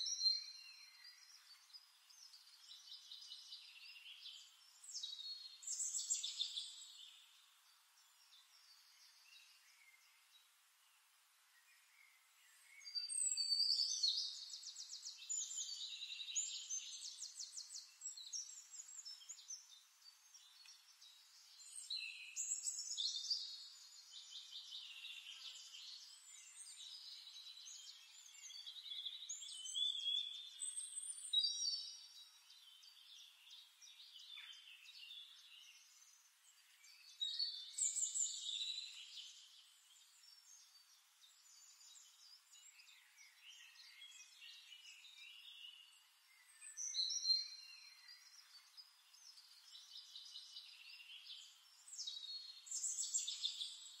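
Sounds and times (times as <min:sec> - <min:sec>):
birds singing trills and chirps: 0:00.0 - 0:54.0.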